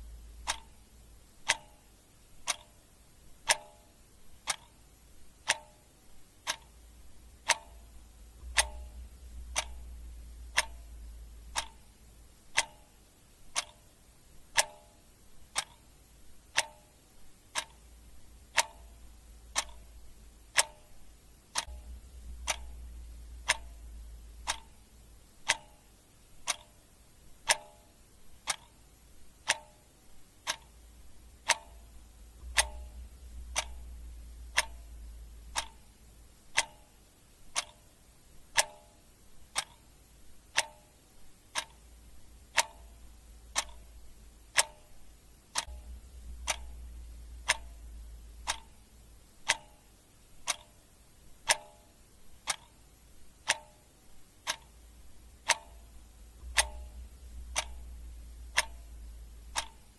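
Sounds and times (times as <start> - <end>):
clock ticking: 0.0 - 59.9
faint low rumble: 0.0 - 59.9.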